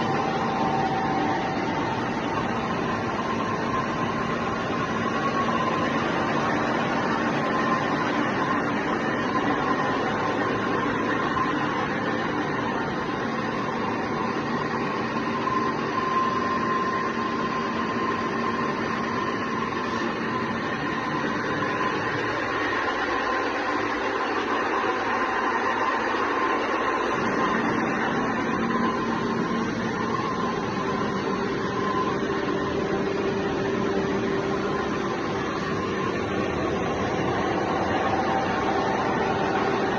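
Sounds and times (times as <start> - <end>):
machine tool humming and whining: 0.0 - 39.9.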